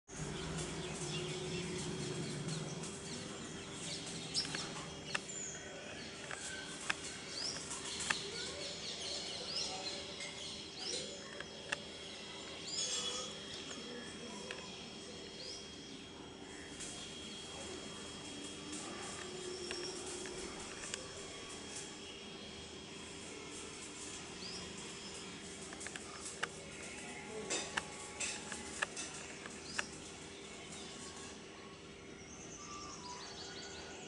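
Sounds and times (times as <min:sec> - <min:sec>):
birds chirping: 0:00.1 - 0:34.0
steady low hum: 0:00.1 - 0:34.0.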